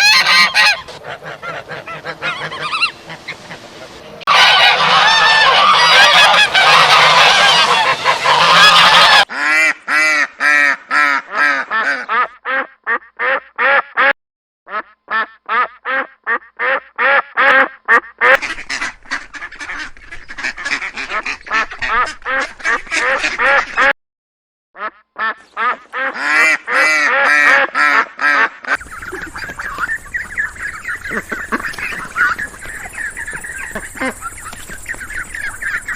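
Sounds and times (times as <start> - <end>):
chorus of waterfowl calling: 0.0 - 14.1, 14.7 - 23.9, 24.8 - 35.9.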